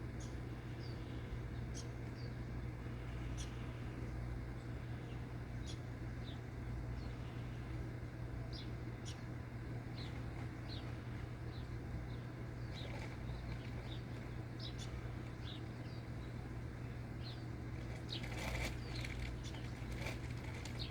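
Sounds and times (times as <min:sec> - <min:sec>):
low hum and hiss: 0:00.0 - 0:20.9.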